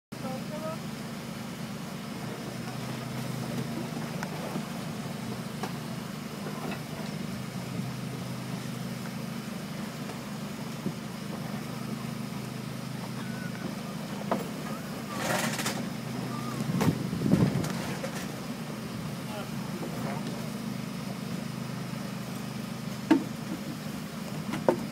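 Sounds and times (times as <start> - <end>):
boat engine droning: 0.1 - 24.9.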